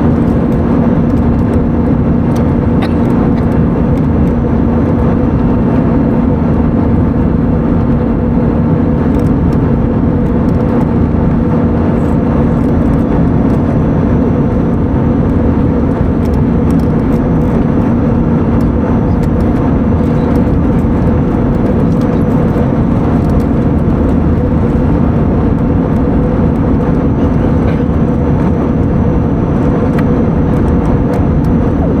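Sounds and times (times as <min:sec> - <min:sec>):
aircraft cabin engine and airflow noise: 0:00.0 - 0:32.0.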